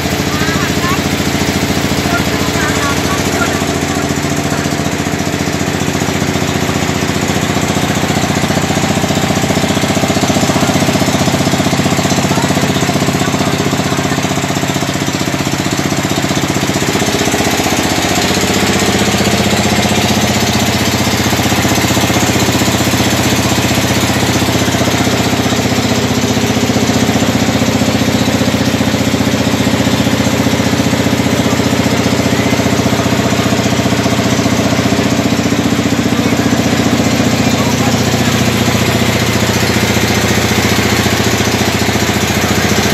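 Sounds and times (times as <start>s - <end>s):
ferry engine drone: 0.0s - 42.9s.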